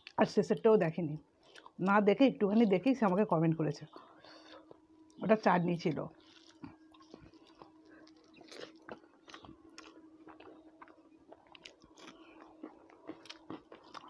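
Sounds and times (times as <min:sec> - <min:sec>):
chewing with soft crunches: 0:00.0 - 0:01.9, 0:02.5 - 0:14.0
faint steady hum: 0:00.0 - 0:14.0.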